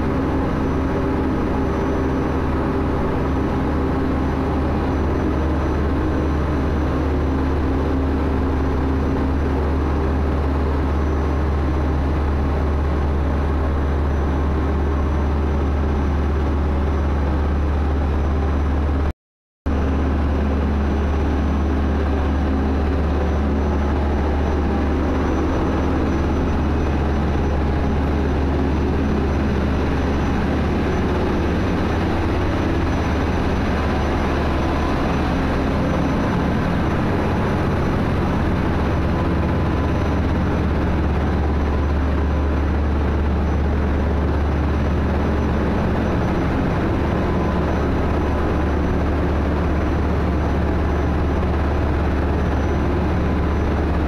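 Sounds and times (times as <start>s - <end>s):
engine room machinery drone: 0.0s - 19.1s, 19.7s - 54.0s.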